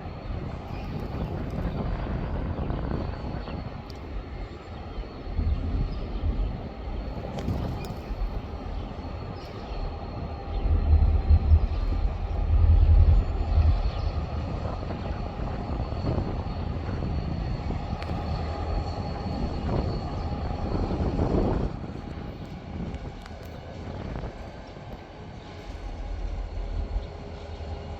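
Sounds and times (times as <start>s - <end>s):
train passing: 0.0s - 27.9s
wind on microphone: 0.0s - 27.9s.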